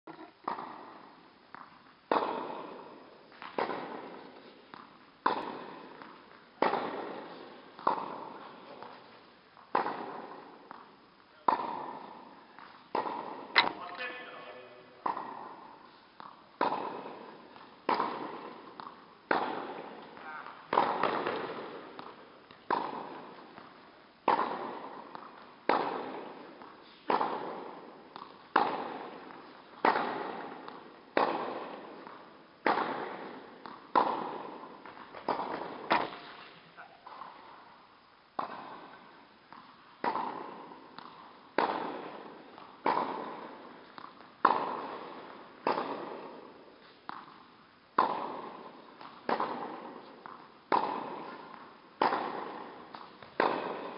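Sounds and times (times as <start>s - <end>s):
tennis balls struck by rackets: 0.1s - 53.9s.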